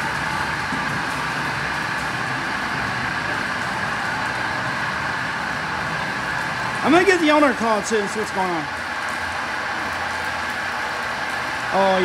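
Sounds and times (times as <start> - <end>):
high pump whine: 0.0 - 12.0.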